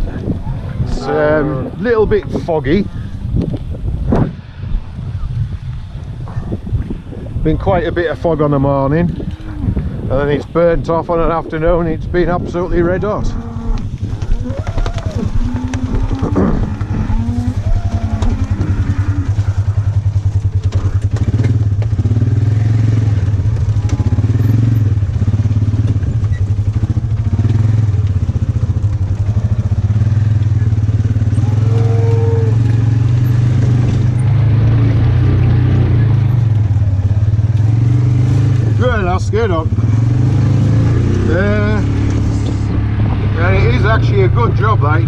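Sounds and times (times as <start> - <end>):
cattle lowing: 0.0 - 4.3, 6.2 - 10.5, 12.4 - 44.5
farm vehicle engine running: 7.5 - 45.0.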